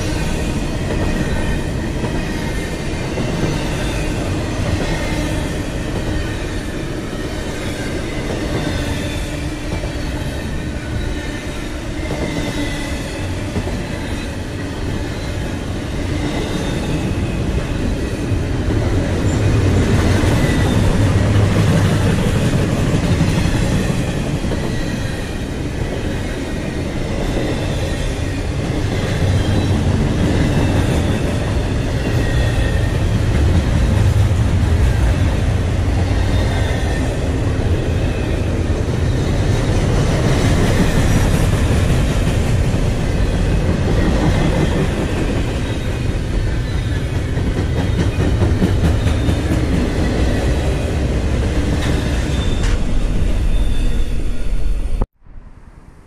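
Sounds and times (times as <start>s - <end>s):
freight train wheels rumbling on rails: 0.0s - 55.1s.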